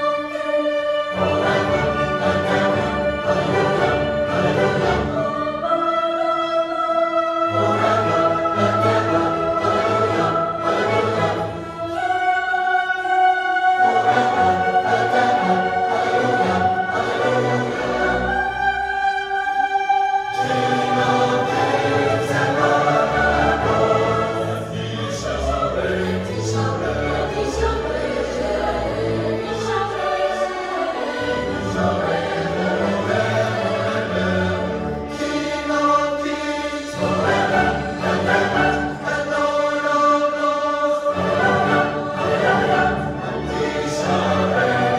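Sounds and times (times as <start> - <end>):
choir singing held chords: 0.0 - 44.9
string orchestra: 0.0 - 44.9.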